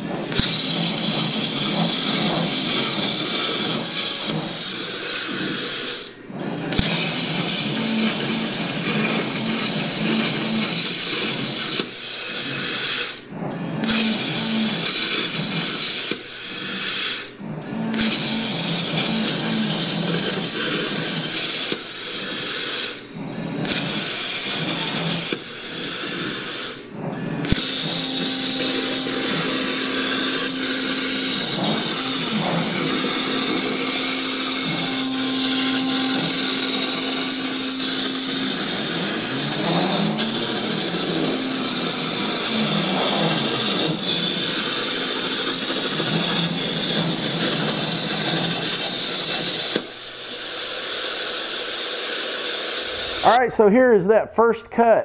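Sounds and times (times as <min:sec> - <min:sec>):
stepper motors whining: 0:00.0 - 0:12.9, 0:13.5 - 0:50.6, 0:52.4 - 0:53.4
plasma cutter torch hissing: 0:00.3 - 0:13.2, 0:14.7 - 0:17.3, 0:17.9 - 0:23.0, 0:23.6 - 0:53.3.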